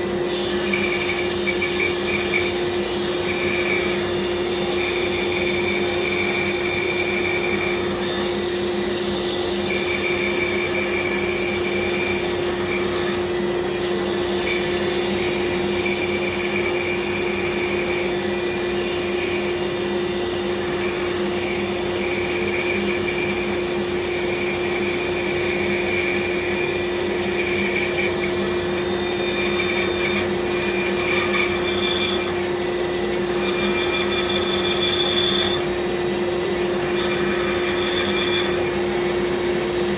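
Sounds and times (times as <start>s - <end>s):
bandsaw cutting wood: 0.0s - 39.9s.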